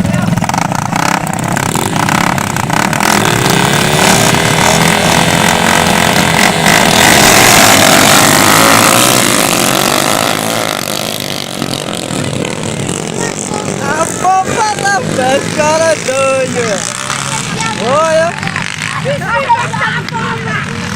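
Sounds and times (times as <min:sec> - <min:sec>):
dirt bike engine revving: 0:00.0 - 0:20.9.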